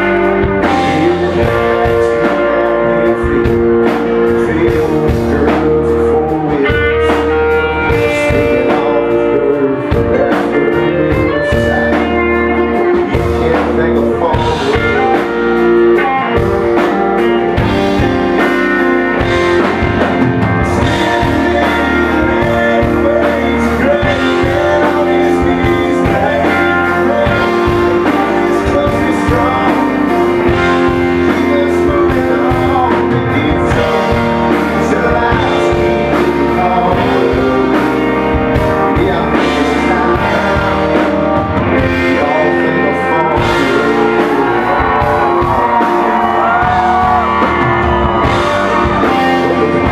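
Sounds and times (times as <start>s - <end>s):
country band playing: 0.0s - 49.9s
man singing: 0.0s - 49.9s.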